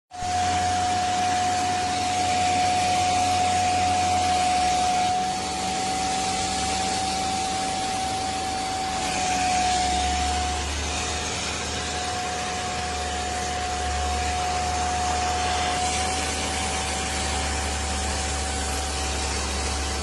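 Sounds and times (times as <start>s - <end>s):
vacuum cleaner motor whining: 0.1s - 20.0s.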